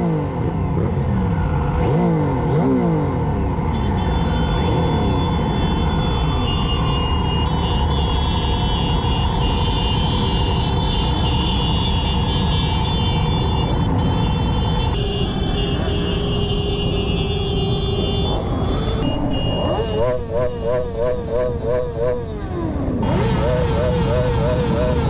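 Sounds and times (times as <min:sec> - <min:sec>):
many motorcycle engines droning: 0:00.0 - 0:25.0.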